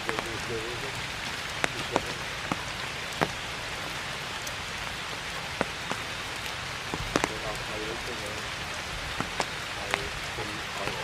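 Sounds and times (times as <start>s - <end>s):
raindrops tapping close by: 0.0s - 11.0s
steady rain falling: 0.0s - 11.0s.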